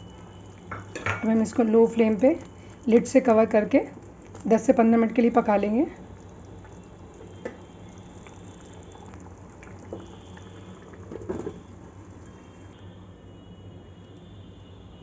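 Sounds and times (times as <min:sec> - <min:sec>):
curry bubbling in a pot: 0:00.0 - 0:14.9
low steady hum: 0:00.0 - 0:15.0.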